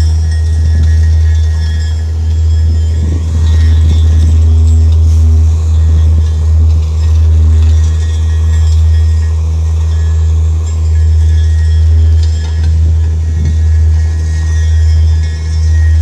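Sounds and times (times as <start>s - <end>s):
faint high whine: 0.0s - 16.0s
vacuum machine engine drone: 0.0s - 16.0s.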